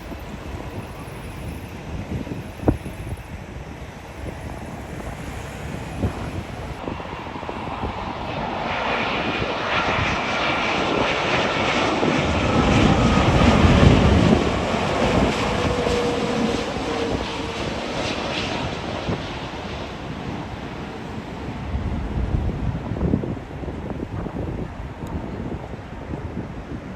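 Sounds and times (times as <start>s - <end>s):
jet airliner passing overhead: 0.0s - 26.9s.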